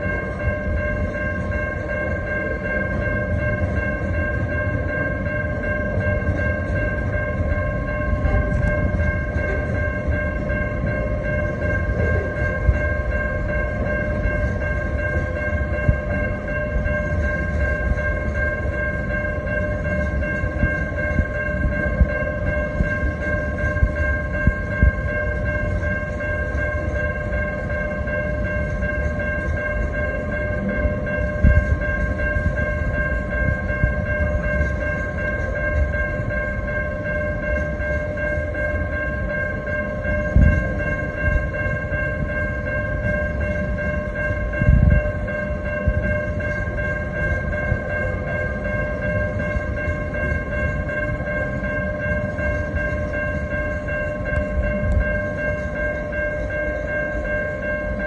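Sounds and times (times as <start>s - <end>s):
steady high-pitched ringing: 0.0s - 58.0s
train wheels rumbling on rails: 0.0s - 58.0s.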